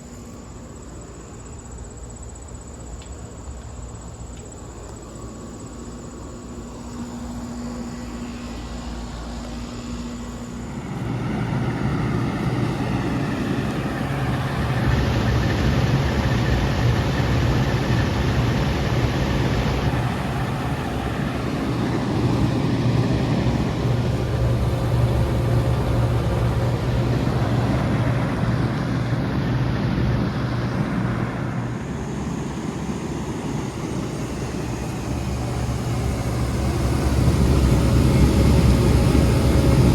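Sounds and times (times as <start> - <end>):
condenser fan rushing: 0.0 - 39.9
heat pump compressor hum: 0.0 - 39.9.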